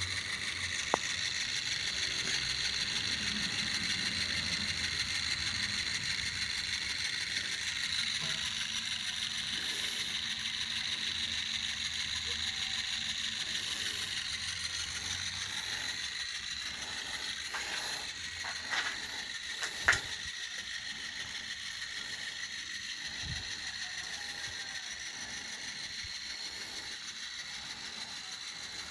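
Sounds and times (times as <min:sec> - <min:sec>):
gear motor and chain whirring: 0:00.0 - 0:28.9.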